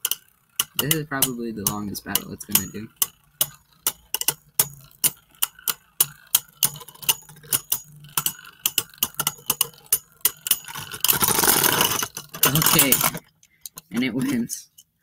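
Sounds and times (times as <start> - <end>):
spinning tops clattering rattle: 0.0 - 14.8
spinning tops clicking: 0.0 - 15.0.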